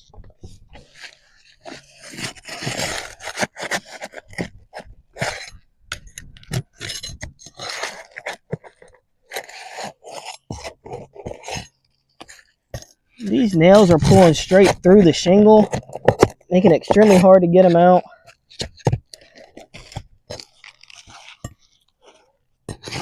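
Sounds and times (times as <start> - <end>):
shingle scraping and crunching: 0.0 - 23.0.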